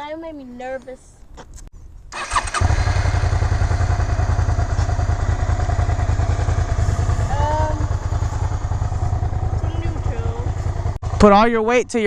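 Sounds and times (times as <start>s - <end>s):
motorcycle engine starting and idling: 2.1s - 12.0s.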